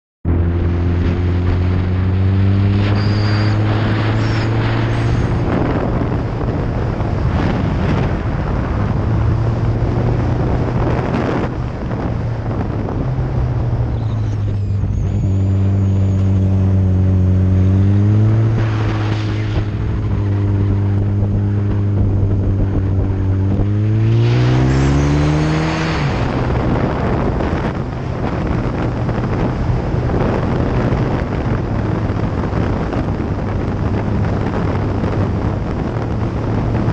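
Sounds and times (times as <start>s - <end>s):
motorcycle engine: 0.2s - 36.9s
wind rushing over microphone: 0.2s - 36.9s.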